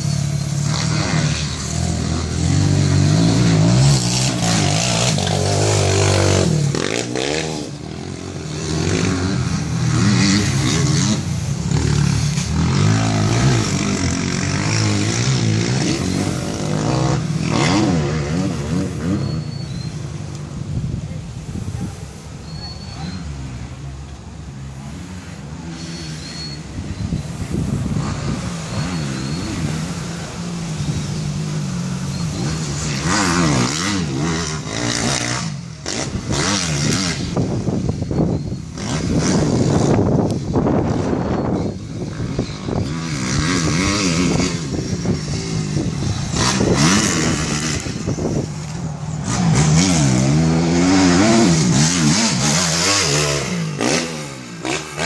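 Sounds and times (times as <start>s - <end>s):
motocross engine revving: 0.0s - 20.0s, 24.8s - 55.0s.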